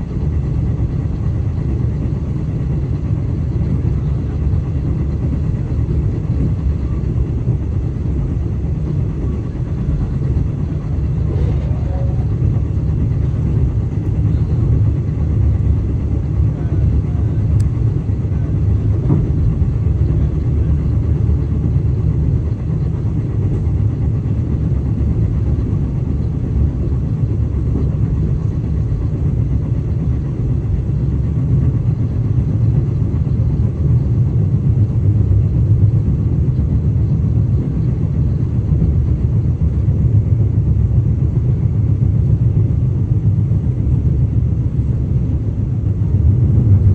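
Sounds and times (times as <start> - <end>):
train low rumble inside carriage: 0.0 - 46.9.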